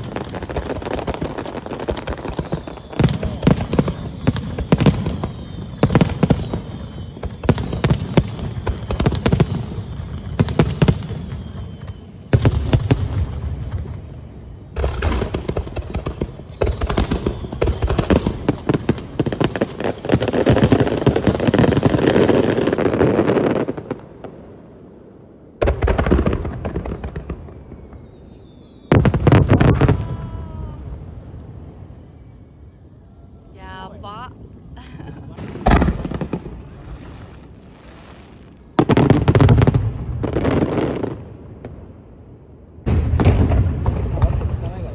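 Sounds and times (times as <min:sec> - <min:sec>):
fireworks crackling: 0:00.0 - 0:24.4, 0:25.6 - 0:41.9, 0:42.8 - 0:44.9
fireworks booming: 0:00.0 - 0:44.9.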